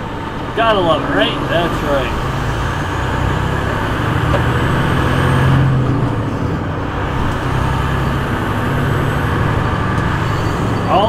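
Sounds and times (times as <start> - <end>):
diesel engine hum in cab: 0.0 - 11.0.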